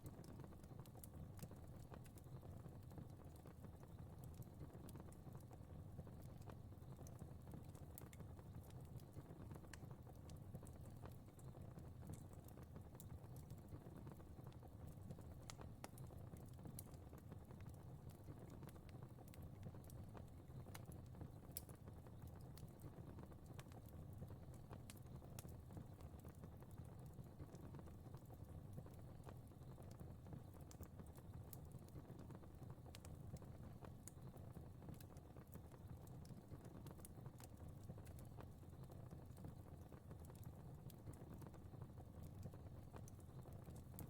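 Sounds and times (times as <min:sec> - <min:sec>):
fire crackling: 0:00.0 - 0:44.0
low rumble of burning: 0:00.0 - 0:44.0.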